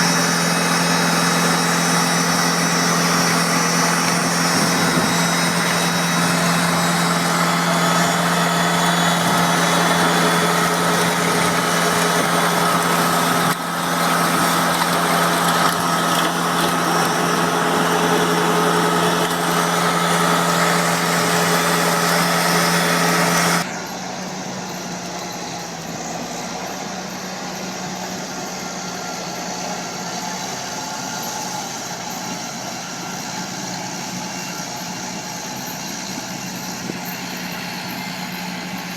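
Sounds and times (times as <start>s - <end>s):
dull engine hum: 0.0s - 32.2s
heavy machinery engine running: 0.0s - 38.9s.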